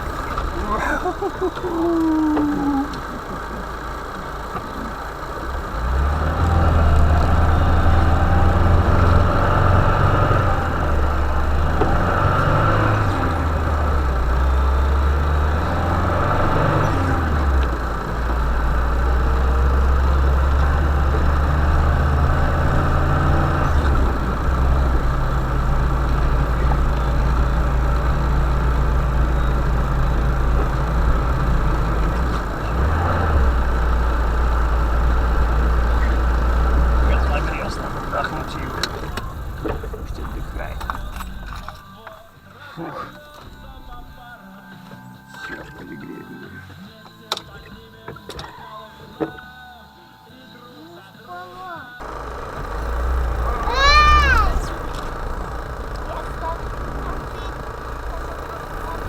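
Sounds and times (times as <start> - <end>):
vehicle engine revving: 0.0 - 42.1, 52.0 - 59.0.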